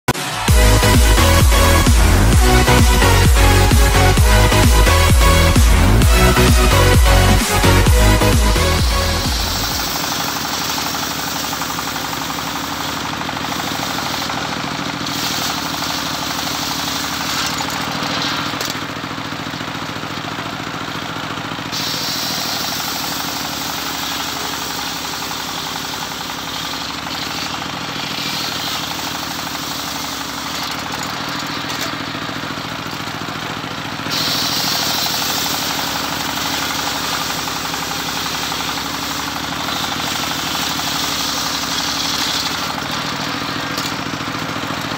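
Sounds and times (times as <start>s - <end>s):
circular saw blade whining: 0.1s - 44.9s.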